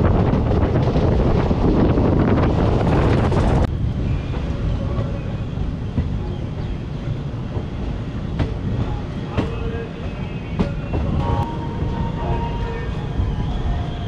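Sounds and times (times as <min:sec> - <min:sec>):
train coaches rumbling: 0:00.0 - 0:14.0
wind buffeting microphone: 0:00.0 - 0:14.0.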